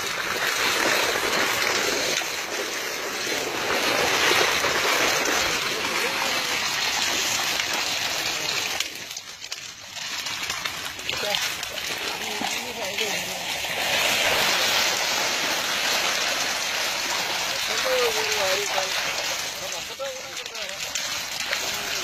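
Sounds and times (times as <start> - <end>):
water splashing and rushing: 0.0 - 22.0.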